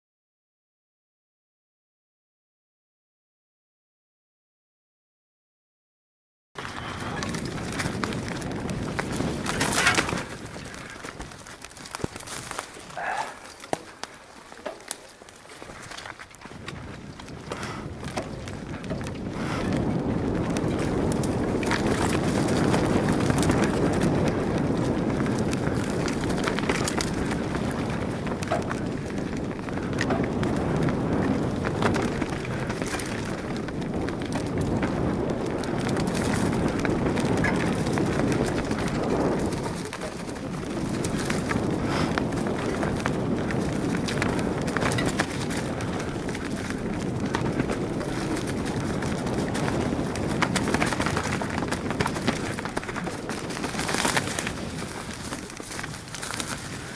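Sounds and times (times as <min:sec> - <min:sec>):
bike tyres rolling over leaves: 0:06.6 - 0:56.9.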